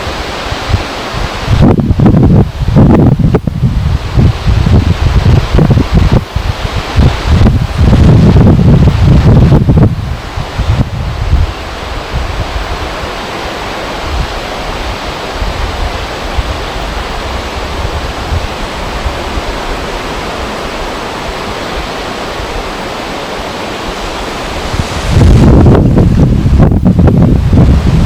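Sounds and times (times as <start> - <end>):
wind buffeting microphone: 0.0 - 28.0
wind rushing: 0.0 - 28.0.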